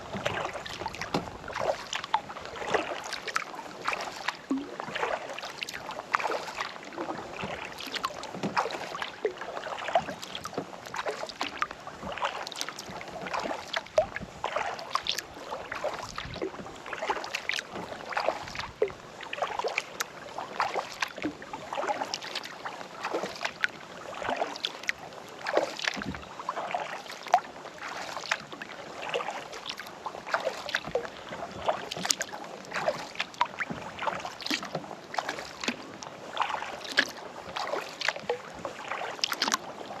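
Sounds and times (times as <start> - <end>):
paddle strokes through water: 0.0 - 40.0
water drips and splashes: 0.0 - 40.0.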